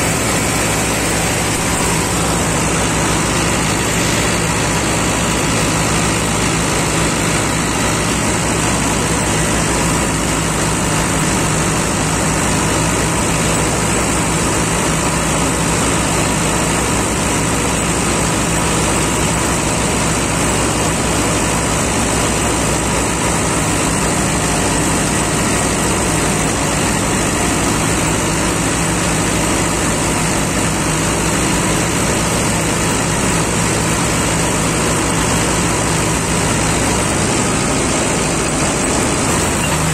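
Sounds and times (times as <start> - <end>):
harvester cutting dry crop: 0.0 - 39.9
tractor diesel engine running: 0.0 - 39.9.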